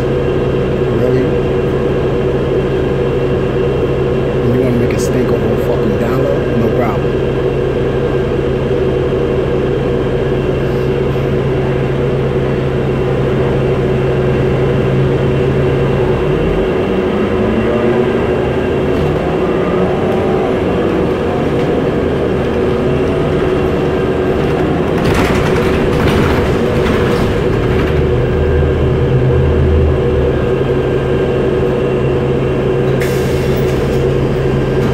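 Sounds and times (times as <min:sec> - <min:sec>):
bus engine running: 0:00.0 - 0:34.9
bus rattling: 0:00.0 - 0:34.9
steady hum: 0:00.0 - 0:34.9.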